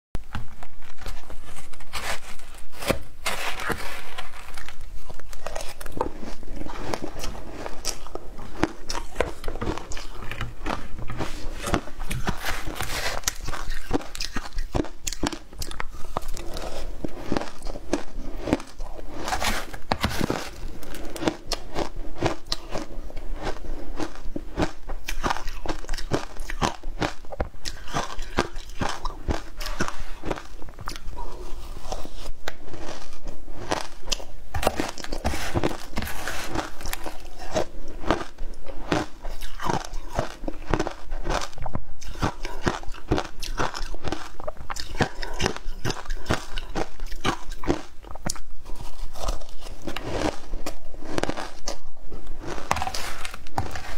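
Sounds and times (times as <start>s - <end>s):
crunching and chewing ice: 0.2s - 53.9s.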